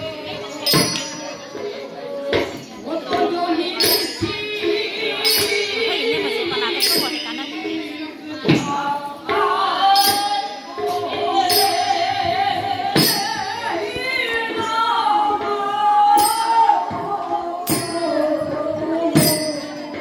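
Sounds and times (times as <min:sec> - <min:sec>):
percussion strikes: 0:00.0 - 0:20.0
person singing wavering melody: 0:00.0 - 0:20.0.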